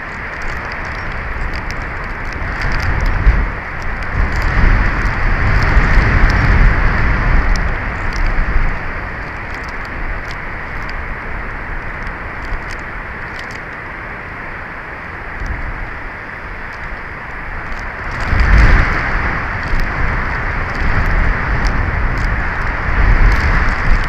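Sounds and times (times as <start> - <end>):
faint ticks: 0.0 - 11.2, 11.8 - 13.8, 15.4 - 15.6, 16.6 - 24.0
strong wind buffeting microphone: 0.0 - 24.0.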